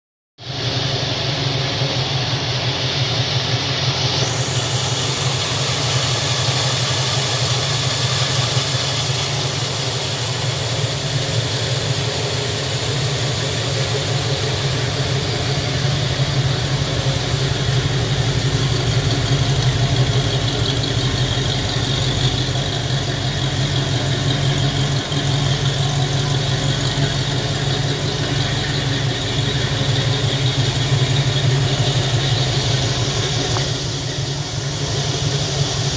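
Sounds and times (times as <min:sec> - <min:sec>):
car engine idling: 0:00.4 - 0:35.9.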